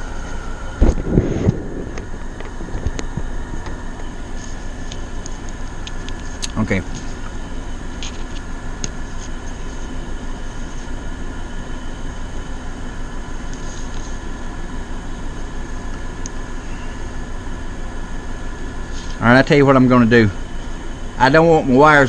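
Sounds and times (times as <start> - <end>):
air conditioners humming: 0.0 - 22.0.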